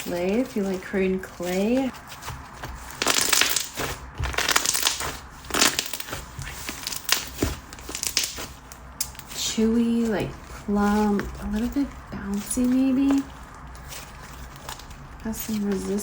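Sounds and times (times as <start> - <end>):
slime crackling and squishing: 0.0 - 16.0.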